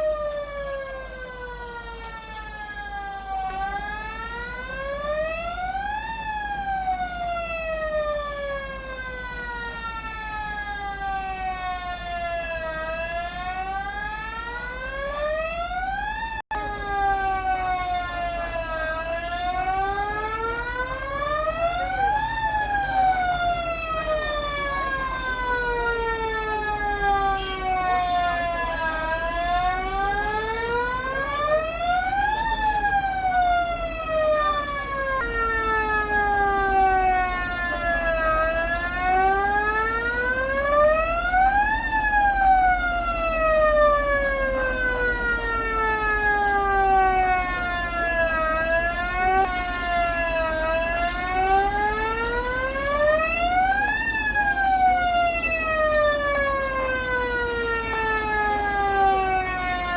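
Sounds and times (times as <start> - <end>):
wailing siren: 0.0 - 59.9.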